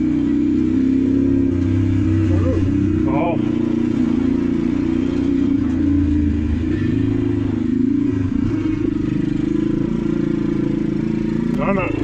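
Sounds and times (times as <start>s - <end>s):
go-kart engine running steadily: 0.0s - 12.0s.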